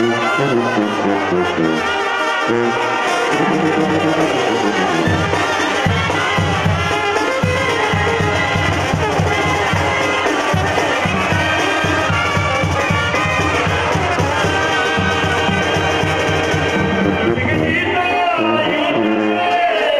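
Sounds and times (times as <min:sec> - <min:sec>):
trumpets and trombones: 0:00.0 - 0:19.9.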